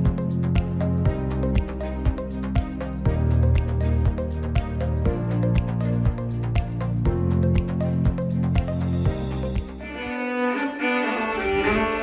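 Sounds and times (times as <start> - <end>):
music with thumping beat: 0.0 - 10.0.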